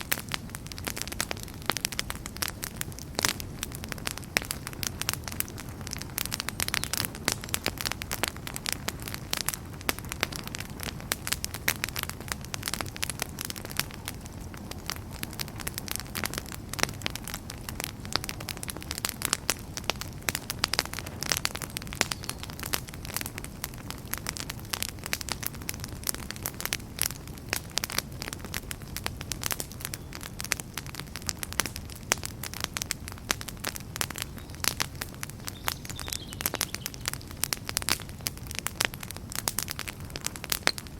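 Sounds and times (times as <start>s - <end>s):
low rumble of flames: 0.0s - 40.9s
wood fire popping: 0.0s - 40.9s.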